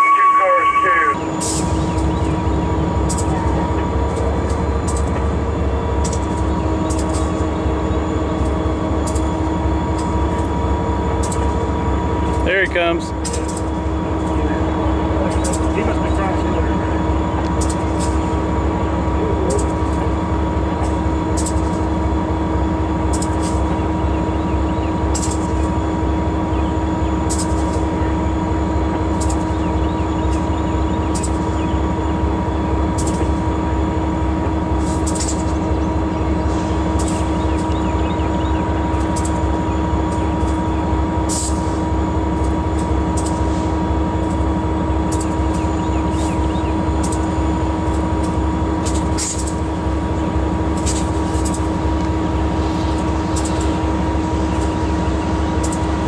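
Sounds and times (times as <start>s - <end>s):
constant hum: 0.0s - 56.0s
locomotive engine rumble: 0.0s - 56.0s.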